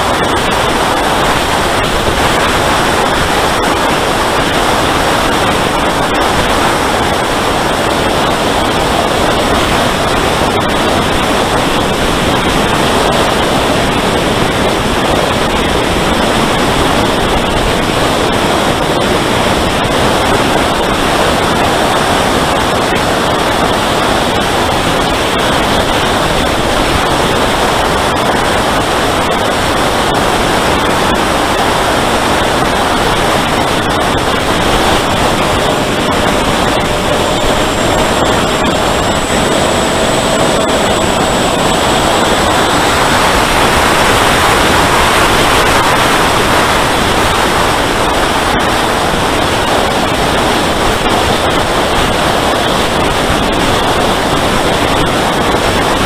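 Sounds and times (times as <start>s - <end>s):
airflow rushing roar: 0.0s - 56.0s.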